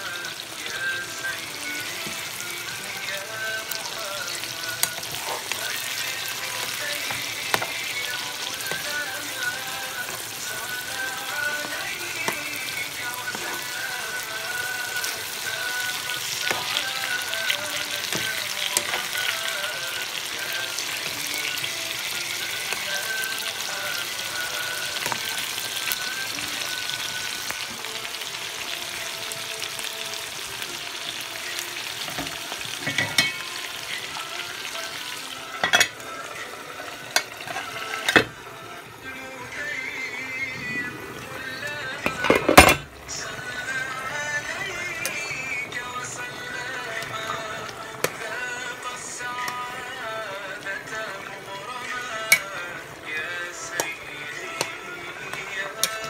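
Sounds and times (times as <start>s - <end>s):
curry sizzling in a frying pan: 0.0s - 56.0s
soft music: 0.0s - 56.0s.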